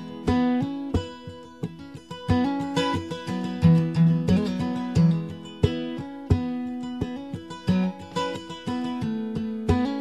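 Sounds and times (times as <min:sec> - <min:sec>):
acoustic guitar notes and chords: 0:00.0 - 0:10.0.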